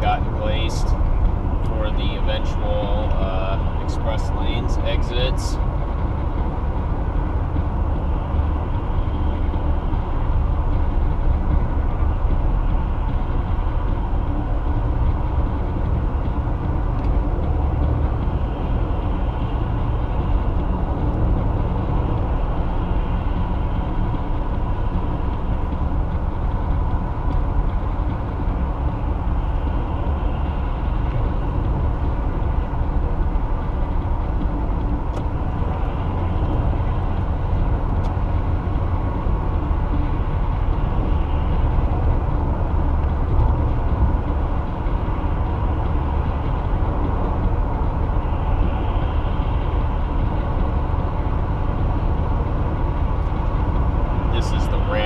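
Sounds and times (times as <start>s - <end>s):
car interior road rumble: 0.0s - 55.0s.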